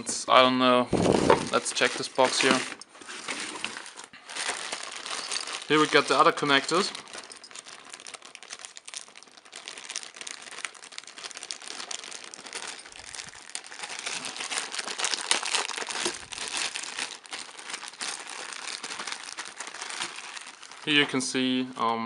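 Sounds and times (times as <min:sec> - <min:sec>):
packaging crinkling and rustling: 0:00.9 - 0:21.4.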